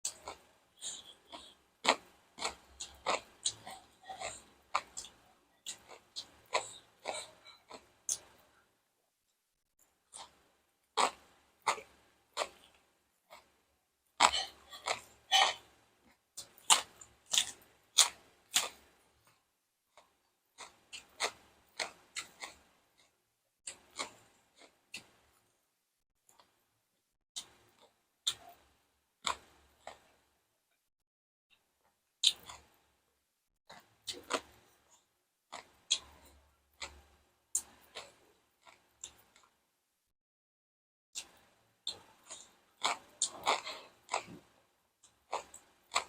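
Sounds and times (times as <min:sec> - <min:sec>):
chewing crunchy food: 0:00.1 - 0:08.6, 0:09.8 - 0:13.6, 0:14.2 - 0:25.5, 0:26.3 - 0:26.6, 0:27.4 - 0:30.3, 0:31.5 - 0:32.9, 0:33.7 - 0:39.6, 0:41.2 - 0:46.0.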